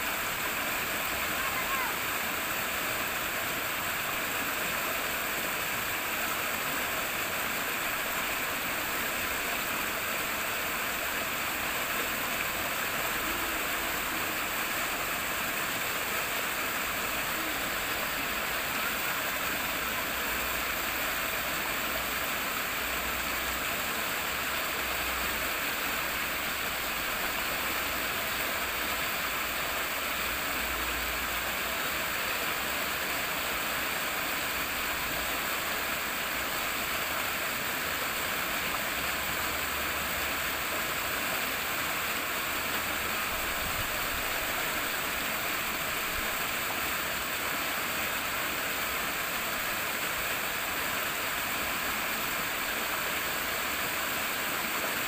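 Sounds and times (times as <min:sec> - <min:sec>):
rushing flowing water: 0:00.0 - 0:55.0.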